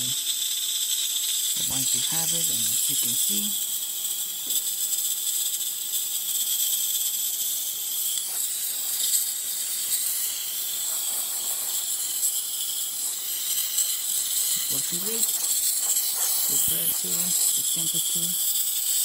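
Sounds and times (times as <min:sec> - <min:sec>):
steam wand hissing: 0:00.0 - 0:19.0.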